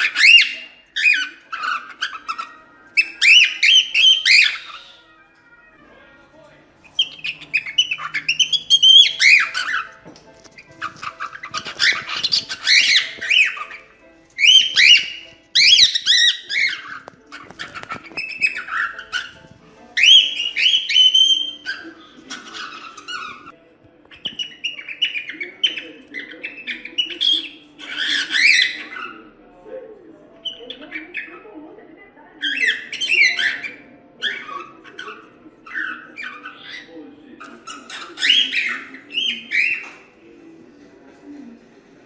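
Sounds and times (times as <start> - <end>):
cockatiel chattering: 0.0 - 5.2, 6.8 - 29.3, 32.4 - 40.1.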